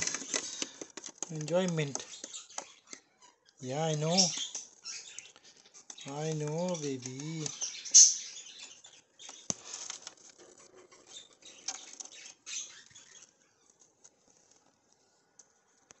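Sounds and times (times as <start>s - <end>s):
budgerigars pecking and nibbling: 0.0s - 16.0s.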